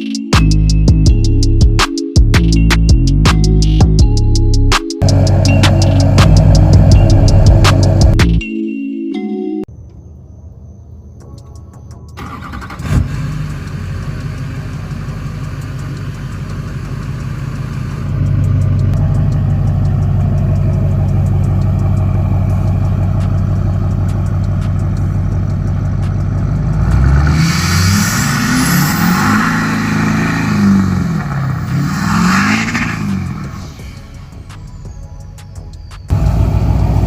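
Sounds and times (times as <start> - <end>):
diesel truck engine idling and revving: 0.4 - 8.4, 12.2 - 37.0.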